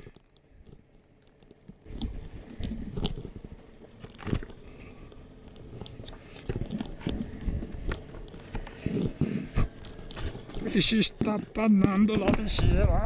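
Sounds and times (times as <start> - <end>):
tyres crunching over gravel: 0.0 - 13.0.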